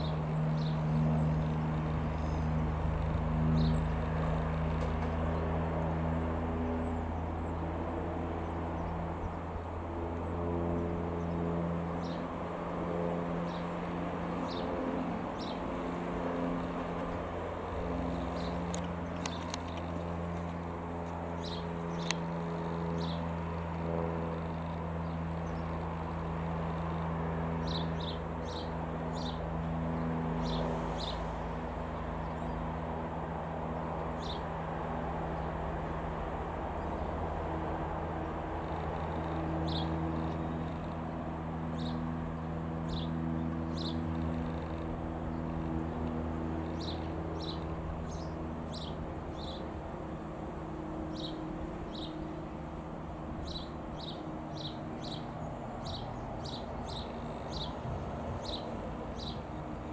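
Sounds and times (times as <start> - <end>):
low engine drone: 0.0 - 59.9.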